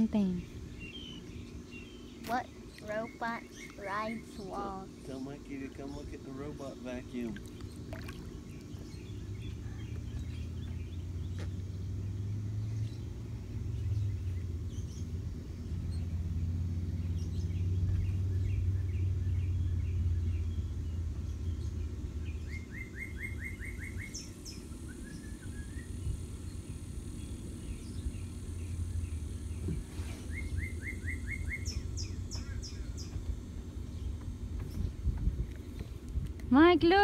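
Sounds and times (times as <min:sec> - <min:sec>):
small birds chirping: 0:00.0 - 0:37.0
steady low rumble: 0:00.0 - 0:37.0.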